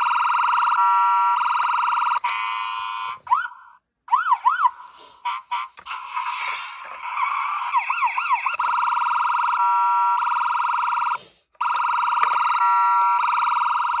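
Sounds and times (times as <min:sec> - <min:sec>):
toy electronic siren: 0:00.0 - 0:14.0.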